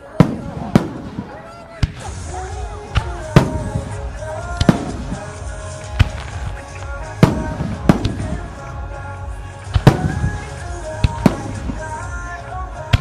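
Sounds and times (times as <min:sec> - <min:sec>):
firework shells booming: 0:00.0 - 0:02.3, 0:02.9 - 0:08.7, 0:09.6 - 0:13.0
music playing: 0:00.0 - 0:13.0.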